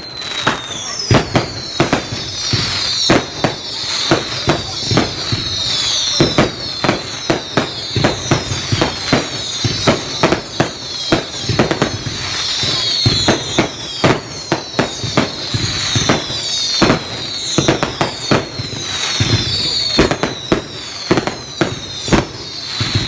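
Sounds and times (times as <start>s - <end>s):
fireworks bangs: 0.0s - 23.0s
high falling whistles: 0.0s - 23.0s.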